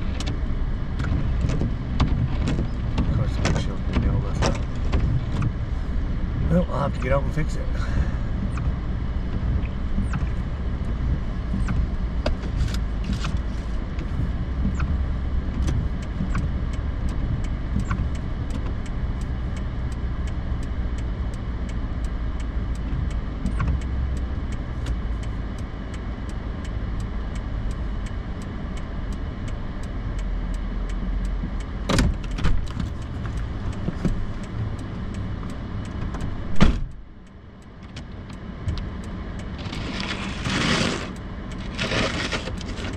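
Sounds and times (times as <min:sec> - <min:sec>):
low rumble of pickup driving: 0:00.0 - 0:42.9
light ticks: 0:06.9 - 0:42.9.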